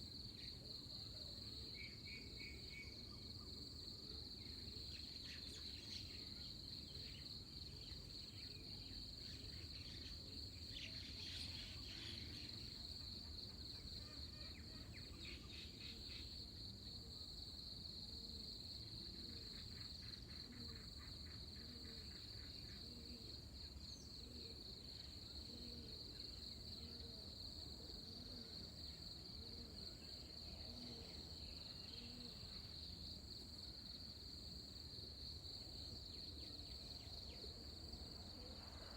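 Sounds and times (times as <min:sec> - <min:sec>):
insect trill: 0:00.0 - 0:38.9.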